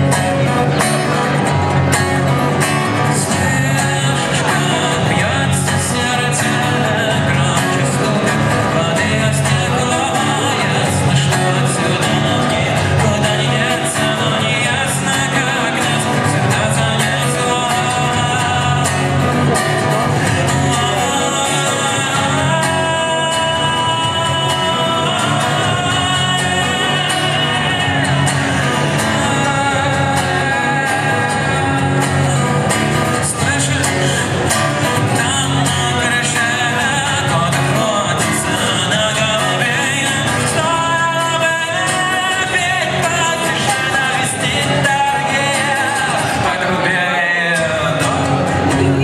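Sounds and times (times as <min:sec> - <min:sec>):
guitar: 0:00.0 - 0:49.0
person singing: 0:00.0 - 0:49.0
rock band playing: 0:00.0 - 0:49.0.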